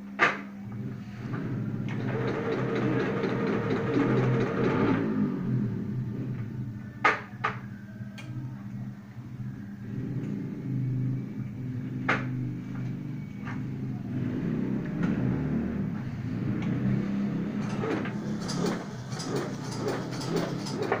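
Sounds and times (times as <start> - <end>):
machine motor hum: 0.6 - 21.0.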